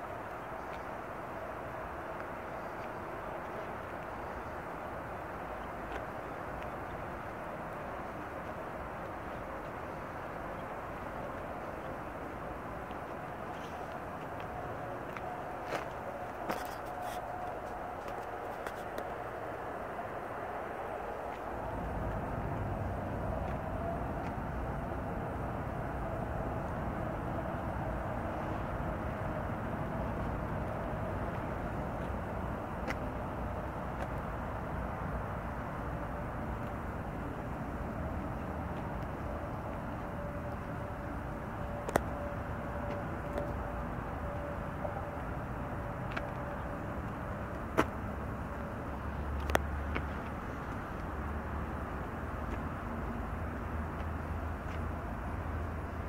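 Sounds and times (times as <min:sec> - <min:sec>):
faint steady whine: 0:00.0 - 0:56.0.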